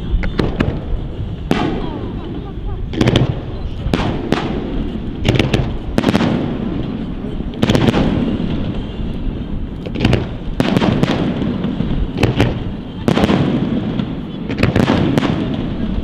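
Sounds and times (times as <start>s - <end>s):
fireworks bursting: 0.0s - 16.0s
low echoing rumble: 0.0s - 16.0s.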